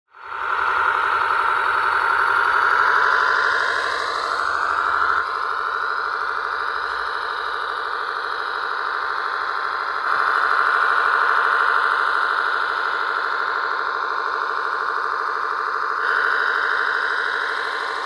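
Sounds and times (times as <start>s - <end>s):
simulated tractor engine sound: 0.1s - 18.0s.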